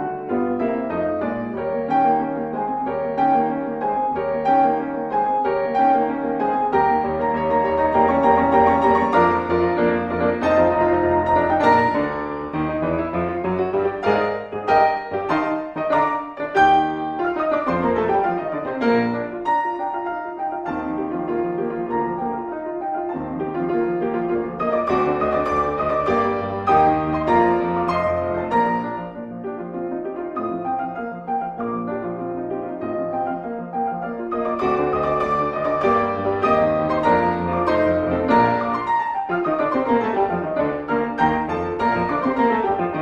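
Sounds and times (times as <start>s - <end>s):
piano music: 0.0s - 43.0s.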